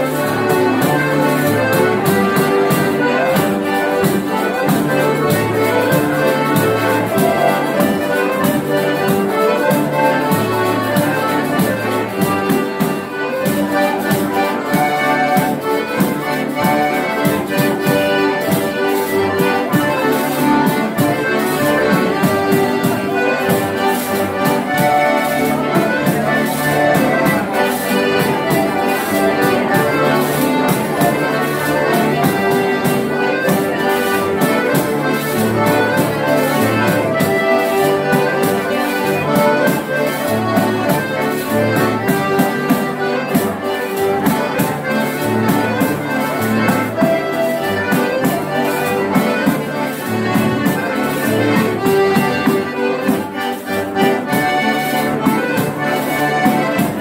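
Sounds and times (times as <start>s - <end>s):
accordion band playing dance tune: 0.0s - 57.0s.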